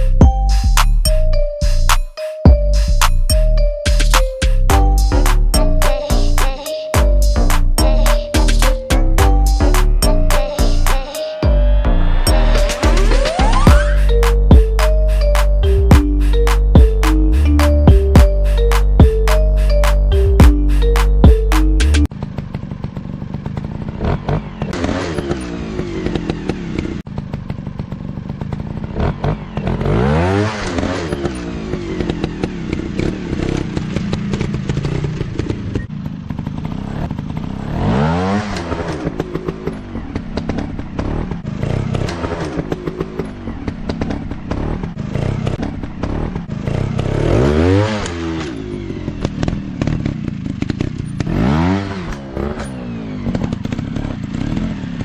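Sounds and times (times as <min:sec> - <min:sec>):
dirt bike engines revving: 0:08.5 - 0:55.0.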